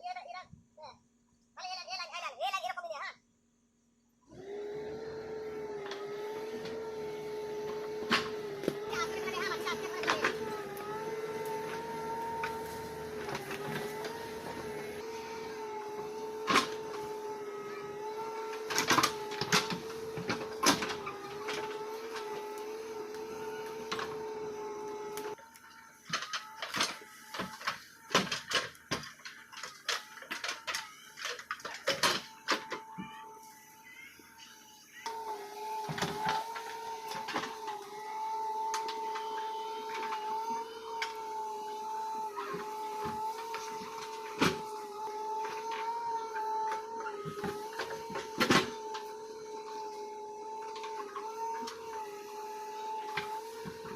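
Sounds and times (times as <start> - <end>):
backhoe mechanical whine: 4.0 - 53.9.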